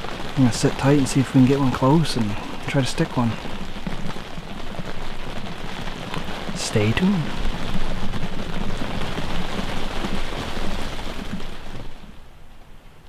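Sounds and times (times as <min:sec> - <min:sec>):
rain pattering on fabric roof: 0:00.0 - 0:13.0.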